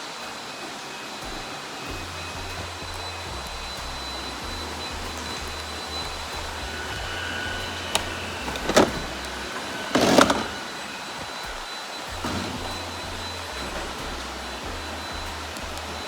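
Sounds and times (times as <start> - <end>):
robot vacuum motor whir: 0.3 - 16.0.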